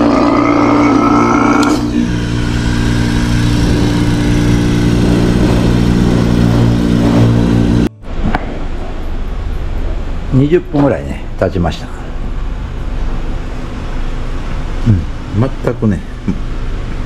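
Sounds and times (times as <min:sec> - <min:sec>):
electric vacuum pump humming: 0:00.0 - 0:17.0.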